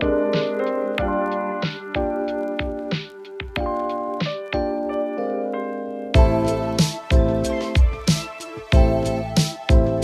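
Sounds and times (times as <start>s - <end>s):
steady drum beat: 0.0s - 4.7s, 6.2s - 10.0s
electronic keyboard tune: 0.0s - 10.0s.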